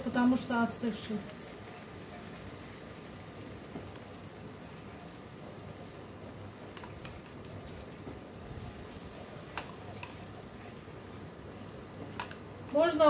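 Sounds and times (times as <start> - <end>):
syrup sizzling on hot pastry: 0.0 - 13.0.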